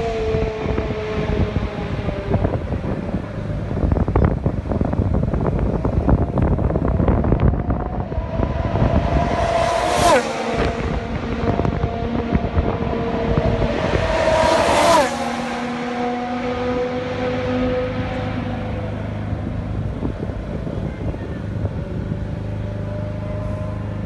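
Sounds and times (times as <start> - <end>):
racing car engines high pitch: 0.0 - 24.0
racing car passing close: 0.0 - 24.0.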